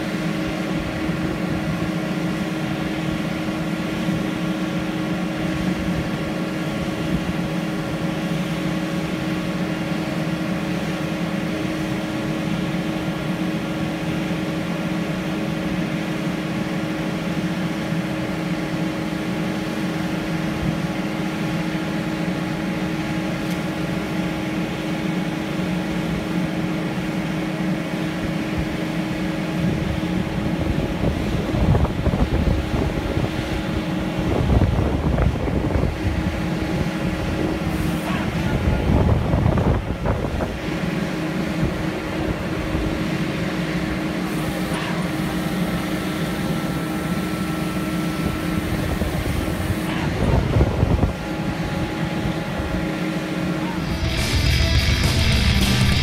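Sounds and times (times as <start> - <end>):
diesel engine running: 0.0 - 56.0
engine surging under hydraulic load: 0.0 - 56.0.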